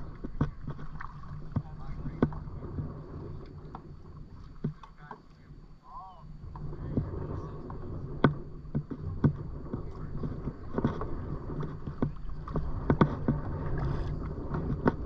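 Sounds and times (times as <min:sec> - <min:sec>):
paddle strokes in water: 0:00.0 - 0:15.0.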